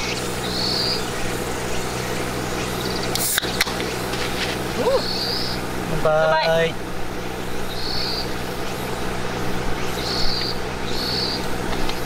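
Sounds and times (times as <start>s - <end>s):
insects chirping: 0.0s - 12.0s
low hum and hiss: 0.0s - 12.0s.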